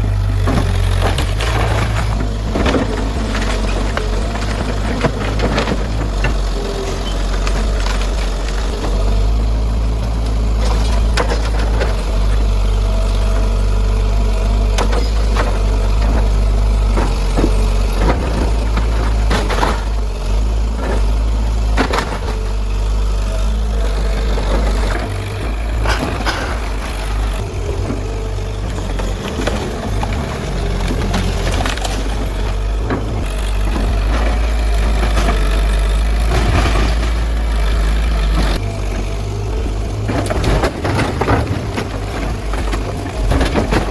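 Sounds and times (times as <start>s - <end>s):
excavator diesel engine under load: 0.0s - 43.9s
knocks and crunches of demolition: 0.0s - 43.9s.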